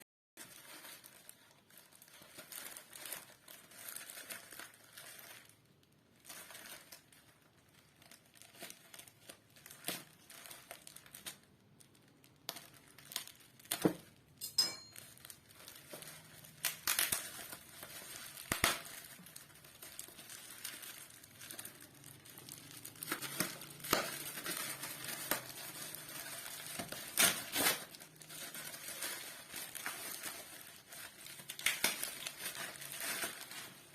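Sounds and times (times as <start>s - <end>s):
wrapping crinkling: 0.4s - 33.9s.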